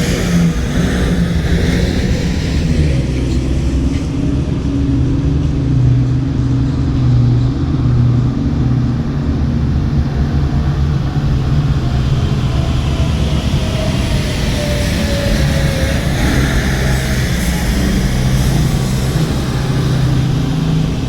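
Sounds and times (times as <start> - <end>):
heavy diesel engines droning: 0.0 - 21.0
higher engine note: 0.0 - 21.0.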